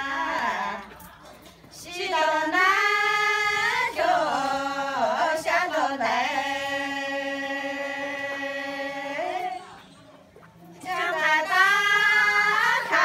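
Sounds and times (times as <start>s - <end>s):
women singing unaccompanied: 0.0s - 9.8s, 10.8s - 13.0s.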